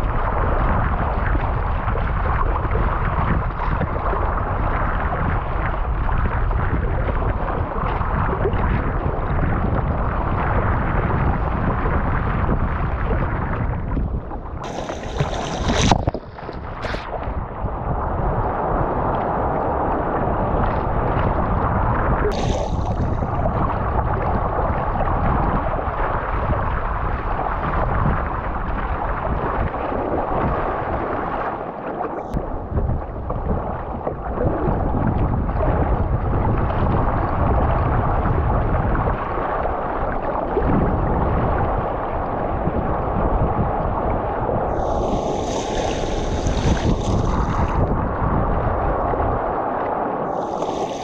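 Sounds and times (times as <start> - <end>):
rushing water: 0.0 - 51.0
wind rumbling on microphone: 0.0 - 51.0.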